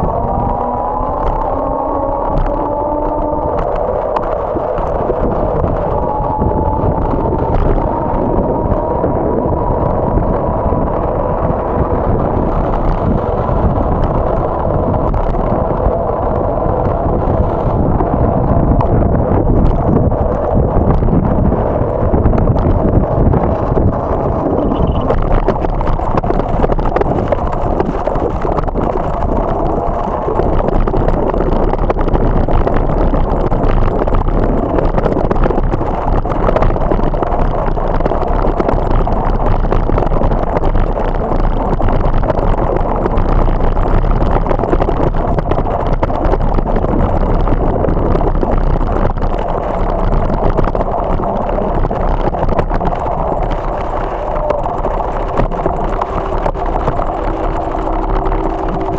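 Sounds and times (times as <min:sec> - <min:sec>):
bike tyres rolling on gravel: 0:00.0 - 0:58.9
wind buffeting microphone: 0:00.0 - 0:58.9.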